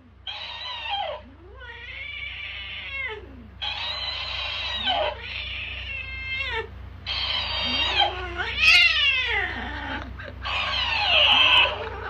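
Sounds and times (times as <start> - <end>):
cat meowing: 0.3 - 11.8.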